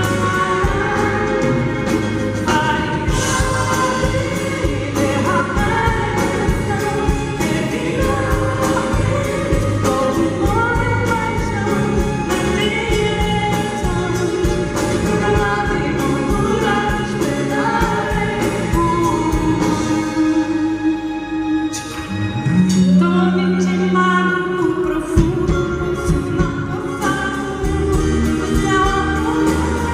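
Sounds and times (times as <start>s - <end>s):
woman singing into microphone: 0.0s - 21.3s, 22.7s - 29.9s
band accompaniment with beat: 0.0s - 29.9s.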